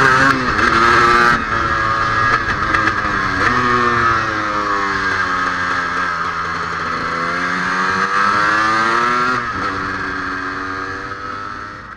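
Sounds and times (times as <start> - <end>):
two-stroke motorcycle engine: 0.0 - 11.9.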